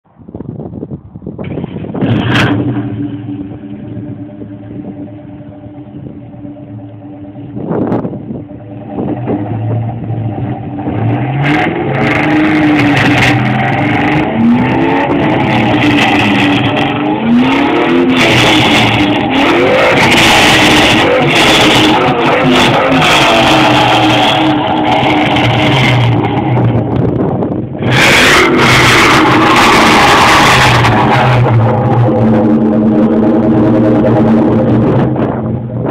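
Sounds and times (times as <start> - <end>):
car engine idling and revving: 0.4 - 35.9.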